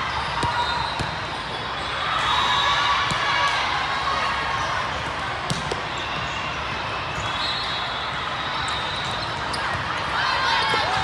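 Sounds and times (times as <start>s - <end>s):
distant voices in a hall: 0.0s - 11.0s.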